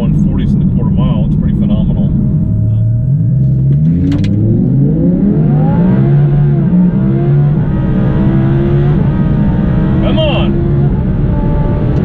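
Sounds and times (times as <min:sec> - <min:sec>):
sports car engine accelerating: 0:00.0 - 0:12.0.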